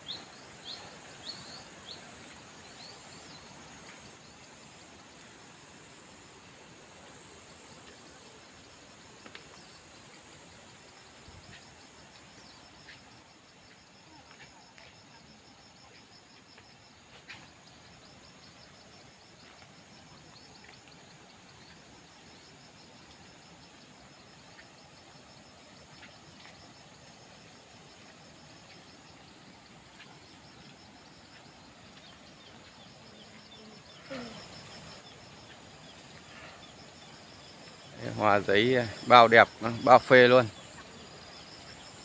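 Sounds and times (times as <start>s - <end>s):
insect high chirping: 0.0s - 42.0s
insects droning: 0.0s - 42.0s.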